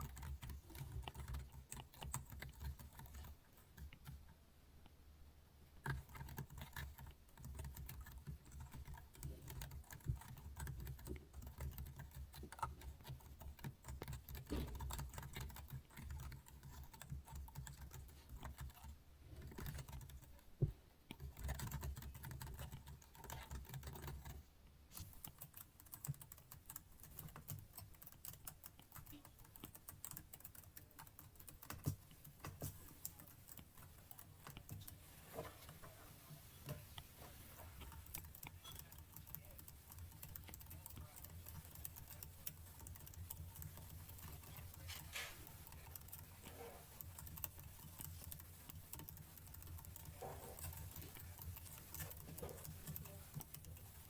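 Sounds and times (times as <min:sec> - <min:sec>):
keyboard typing: 0:00.0 - 0:04.2, 0:05.8 - 0:20.4, 0:21.1 - 0:24.4, 0:25.1 - 0:35.8, 0:37.6 - 0:54.0.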